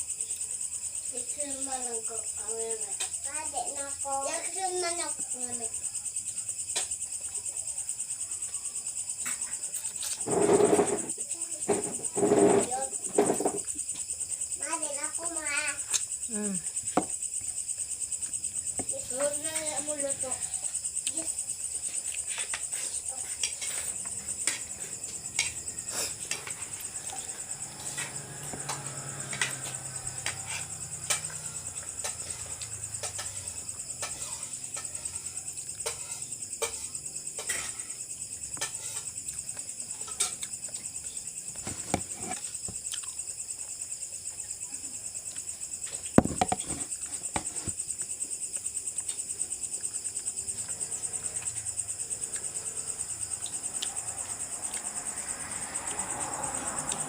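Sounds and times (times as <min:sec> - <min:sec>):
insect chorus chirping: 0:00.0 - 0:57.0.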